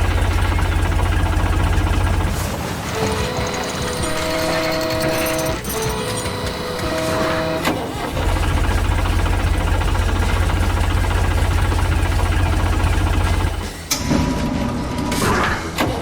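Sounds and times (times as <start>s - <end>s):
sustained musical tones: 0.0s - 15.2s
heavy machine engine throbbing: 0.0s - 16.0s.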